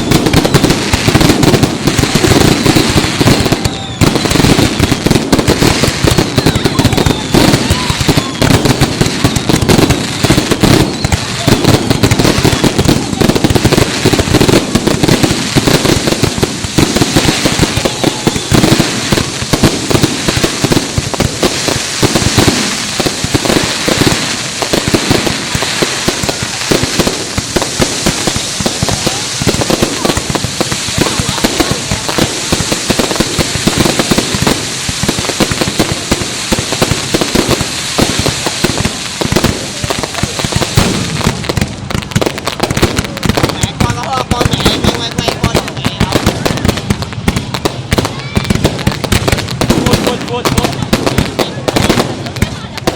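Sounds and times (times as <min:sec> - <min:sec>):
crowd voices: 0:00.0 - 0:52.9
fireworks bangs and crackles: 0:00.0 - 0:52.9.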